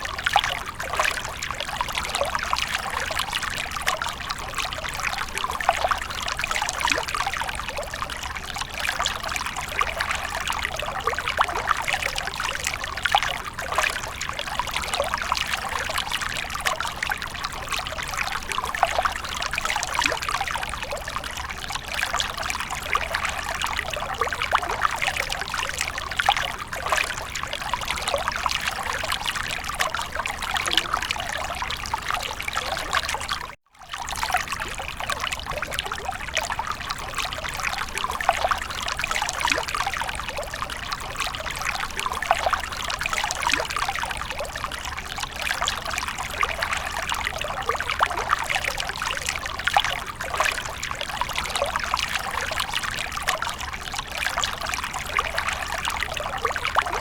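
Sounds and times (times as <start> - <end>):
fountain splashing and trickling: 0.0 - 57.0.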